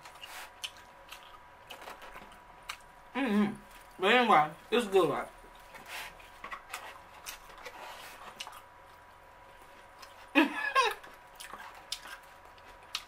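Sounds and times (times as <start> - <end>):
quiet chewing: 0.0 - 3.0, 5.4 - 13.0.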